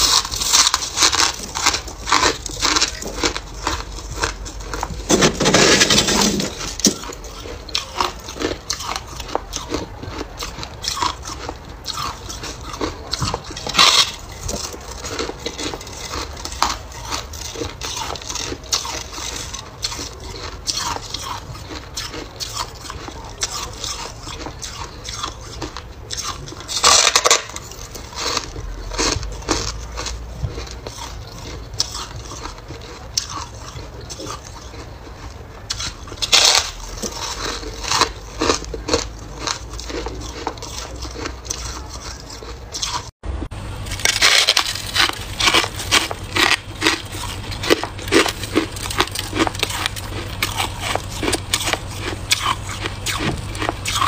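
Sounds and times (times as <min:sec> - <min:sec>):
crunching freezer frost: 0:00.0 - 0:54.0.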